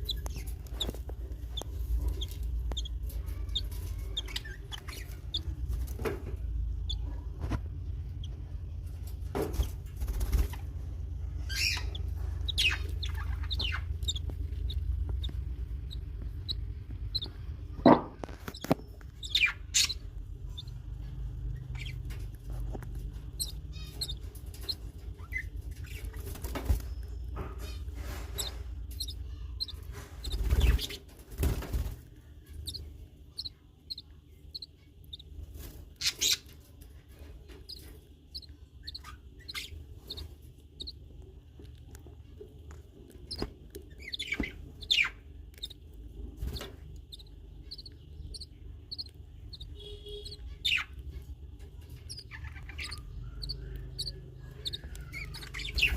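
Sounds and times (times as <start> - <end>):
small birds cheeping: 0.0 - 55.9
steady low hum: 0.0 - 55.9.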